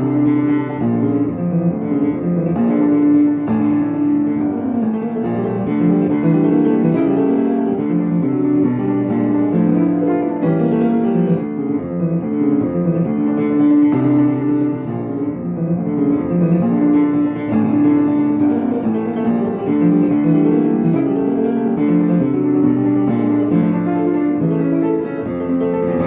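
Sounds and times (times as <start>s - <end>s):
piano chords: 0.0s - 26.0s.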